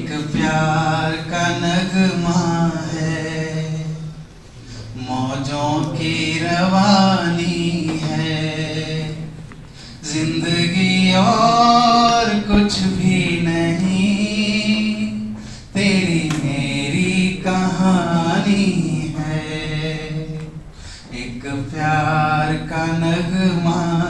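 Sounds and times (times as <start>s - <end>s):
man singing unaccompanied: 0.0s - 4.3s, 4.9s - 9.4s, 10.0s - 24.0s.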